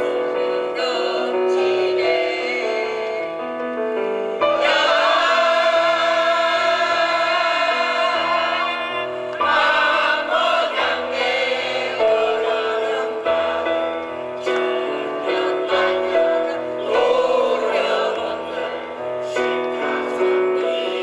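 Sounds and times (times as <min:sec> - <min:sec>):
mixed choir singing: 0:00.0 - 0:03.4, 0:04.4 - 0:21.0.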